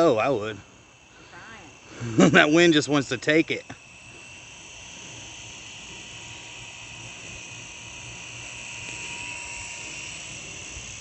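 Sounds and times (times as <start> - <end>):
toy helicopter rotors whirring: 0.0 - 11.0
wind: 0.0 - 11.0.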